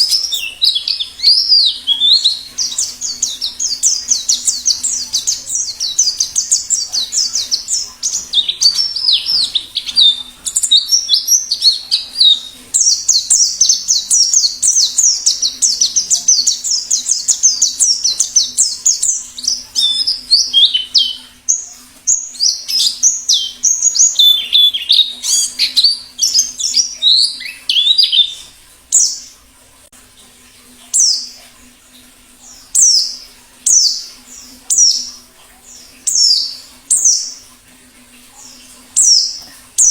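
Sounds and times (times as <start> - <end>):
bird twittering song: 0.0 - 29.4, 32.4 - 37.5, 38.4 - 39.9
faint steady hum: 0.0 - 39.9.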